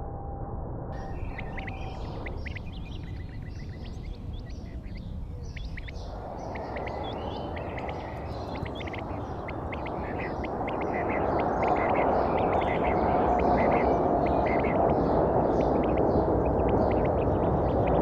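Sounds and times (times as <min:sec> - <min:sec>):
low rumbling noise: 0:00.0 - 0:18.0
small birds chirping: 0:01.0 - 0:18.0.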